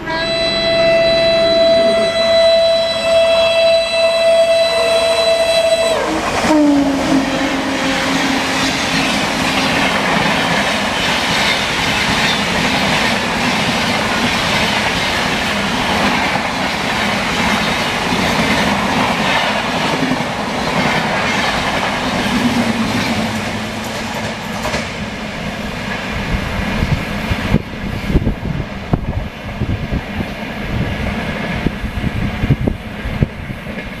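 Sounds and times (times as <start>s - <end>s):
passenger train rushing past: 0.0s - 34.0s.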